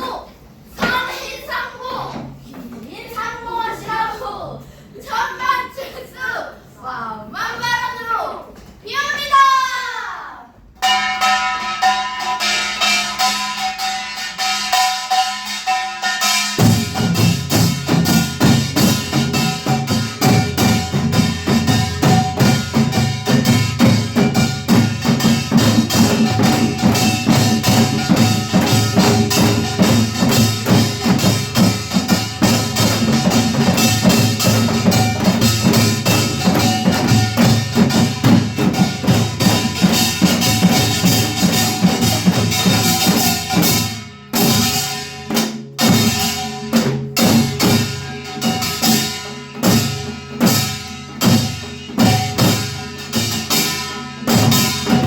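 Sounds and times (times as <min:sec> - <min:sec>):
fast percussion strokes: 0:10.7 - 0:55.0.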